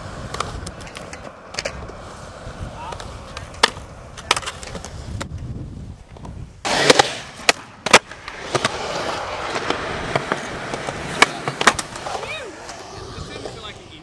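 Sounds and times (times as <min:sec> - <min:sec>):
skateboard wheels rolling on concrete: 0:00.0 - 0:14.0
skateboard clacking on ground: 0:00.2 - 0:02.0, 0:02.8 - 0:05.4, 0:06.1 - 0:13.6.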